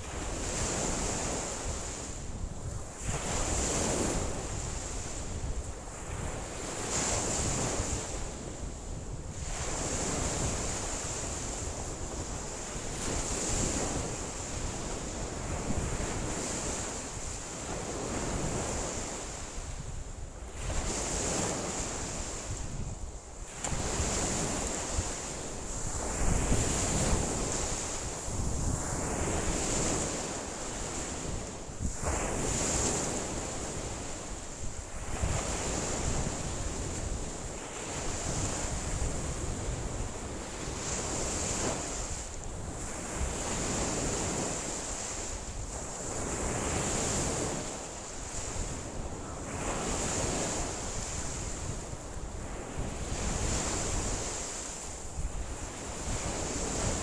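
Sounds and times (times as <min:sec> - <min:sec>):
lake waves washing on shore: 0:00.0 - 0:57.0
wind buffeting microphone: 0:00.0 - 0:57.0.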